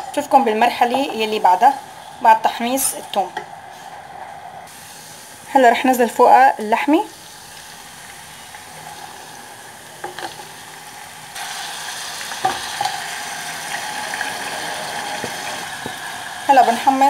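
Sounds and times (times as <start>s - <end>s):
garlic sizzling in ghee: 0.0s - 3.8s, 4.7s - 17.0s.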